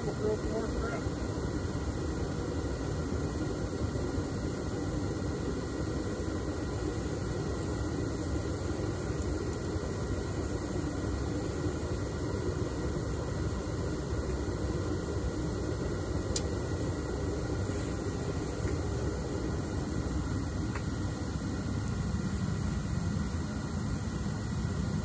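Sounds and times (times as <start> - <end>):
propane burner rushing: 0.0 - 25.0.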